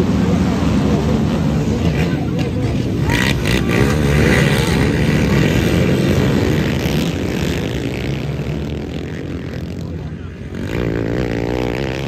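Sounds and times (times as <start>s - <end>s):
racing quad engines revving: 0.0s - 12.0s.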